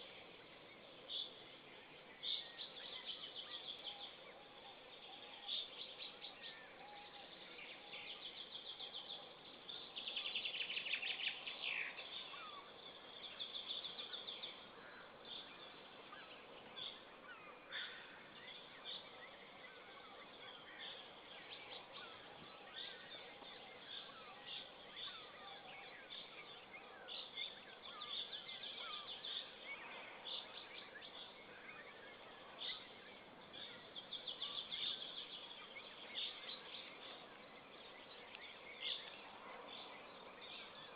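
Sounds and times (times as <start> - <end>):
steady background hiss: 0.0 - 40.9
wild birds singing and calling: 0.0 - 40.9.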